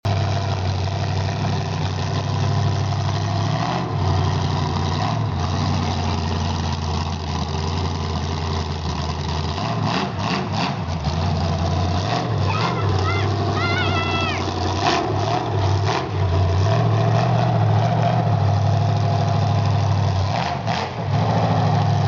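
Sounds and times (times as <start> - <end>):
racing engine idling: 0.0 - 22.0.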